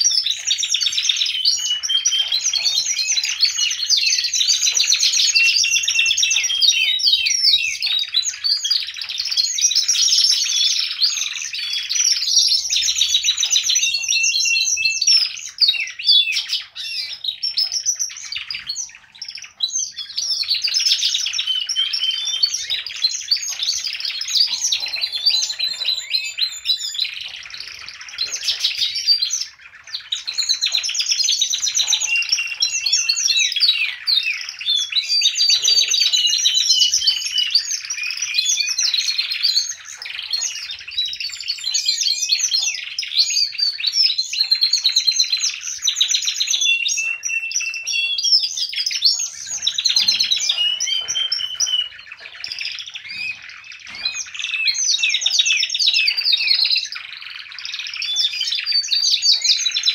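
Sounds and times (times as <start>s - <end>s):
canaries singing trills: 0.0s - 59.9s.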